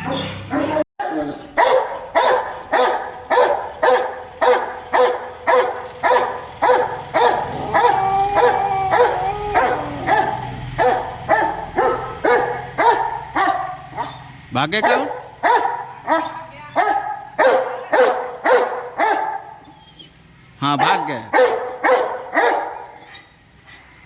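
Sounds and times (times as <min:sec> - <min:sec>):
dog barking aggressively: 0:00.0 - 0:19.6, 0:20.8 - 0:23.1.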